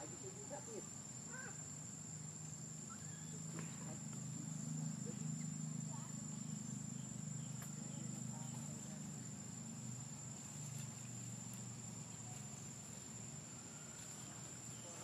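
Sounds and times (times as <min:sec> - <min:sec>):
faint low hum: 0:00.0 - 0:15.0
insects droning: 0:00.0 - 0:15.0.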